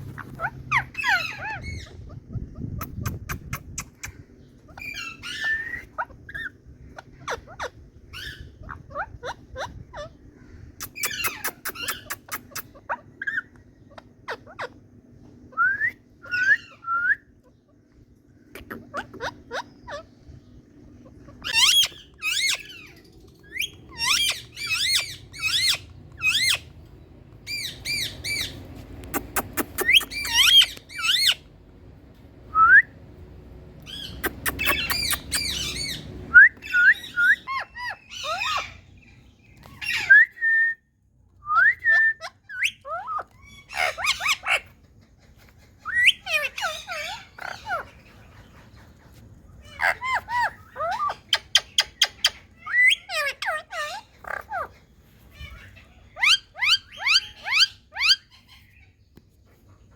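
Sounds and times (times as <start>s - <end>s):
parrots squawking: 0.0s - 14.9s, 18.4s - 20.4s, 21.0s - 31.5s, 33.8s - 40.3s, 41.8s - 59.0s.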